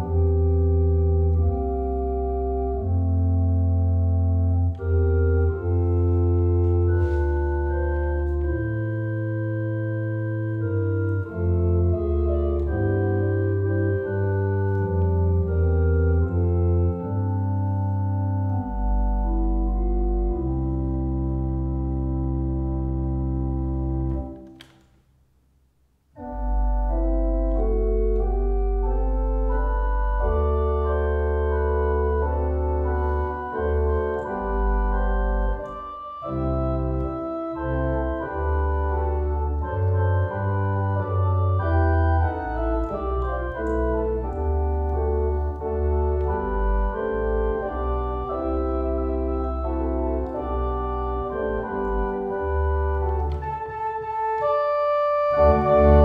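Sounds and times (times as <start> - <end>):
church organ chords: 0.0 - 24.7, 26.2 - 56.0.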